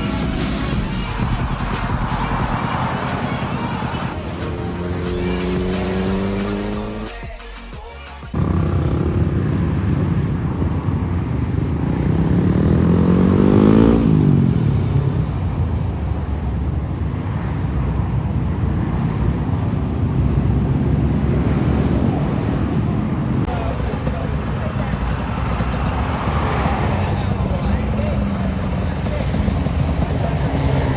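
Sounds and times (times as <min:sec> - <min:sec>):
vehicle passing close: 0:00.0 - 0:07.1, 0:08.4 - 0:30.9
road traffic rumble: 0:00.0 - 0:30.9.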